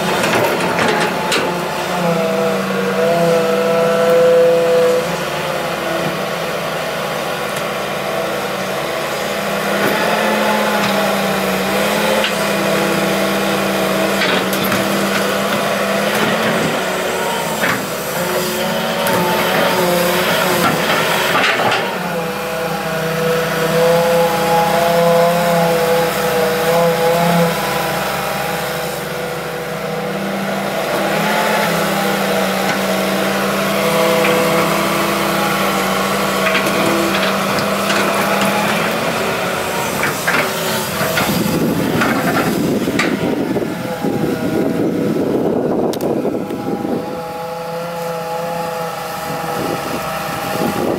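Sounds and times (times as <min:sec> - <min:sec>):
excavator diesel engine: 0:00.0 - 0:50.9
hydraulic whine: 0:00.0 - 0:50.9.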